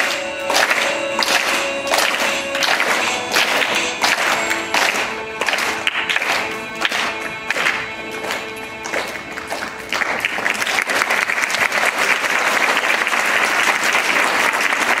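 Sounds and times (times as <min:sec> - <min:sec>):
audience applause: 0:00.0 - 0:15.0
music: 0:00.0 - 0:15.0.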